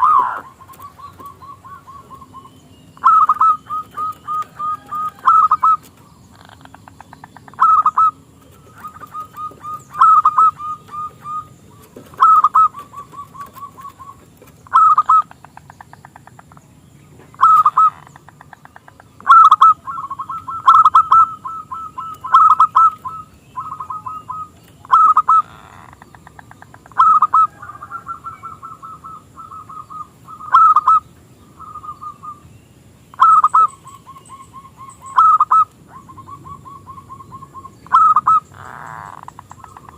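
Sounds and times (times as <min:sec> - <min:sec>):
dove cooing: 0:00.0 - 0:15.4, 0:17.3 - 0:32.5, 0:33.2 - 0:39.9.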